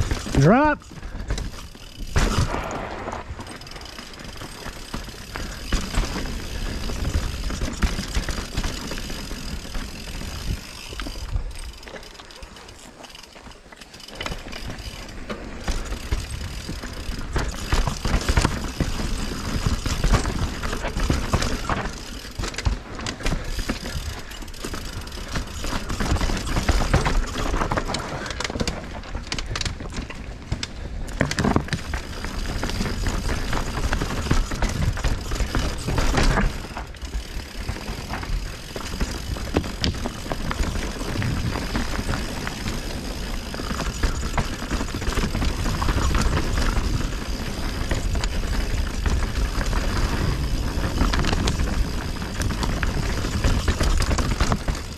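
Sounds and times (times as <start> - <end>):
bike rattling over rocks: 0.0 - 54.9
bike tyres crunching over stones: 0.0 - 54.9.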